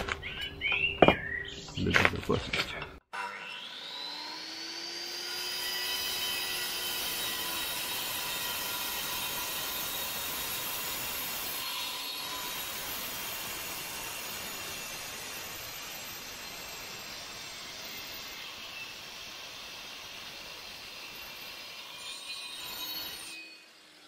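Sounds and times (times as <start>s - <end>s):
angle grinder cutting brick: 3.1s - 24.0s.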